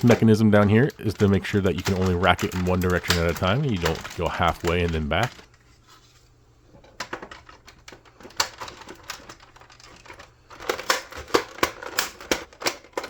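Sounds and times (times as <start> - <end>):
plastic parts clicking: 0.0 - 5.6, 6.8 - 13.0.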